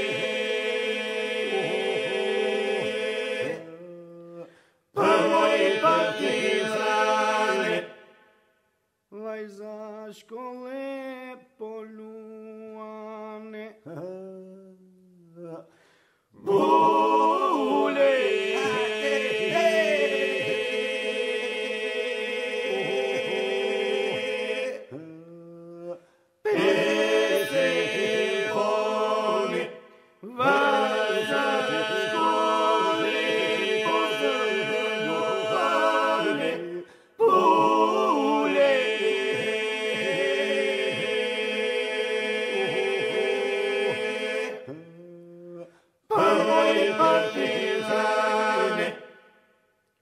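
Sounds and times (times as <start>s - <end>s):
group vocal drone: 0.0s - 8.3s, 16.4s - 25.1s, 25.7s - 49.5s
solo voices singing: 0.0s - 8.4s, 16.4s - 49.5s.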